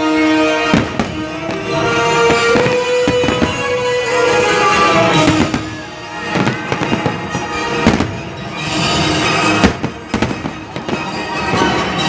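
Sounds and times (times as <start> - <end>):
fireworks bangs and crackles: 0.0 - 12.0
music: 0.0 - 12.0.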